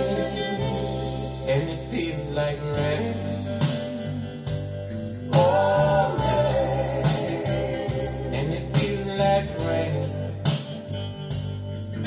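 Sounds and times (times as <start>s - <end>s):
soul ballad over loudspeakers: 0.0s - 12.0s.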